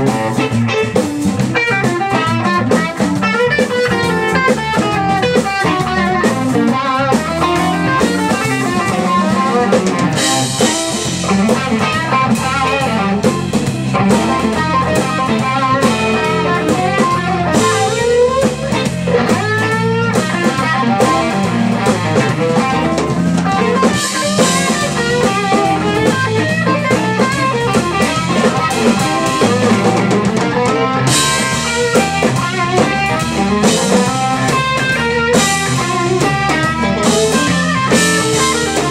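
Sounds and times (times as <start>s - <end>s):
blues band playing: 0.0s - 38.9s
electric guitar lead lines: 0.0s - 38.9s.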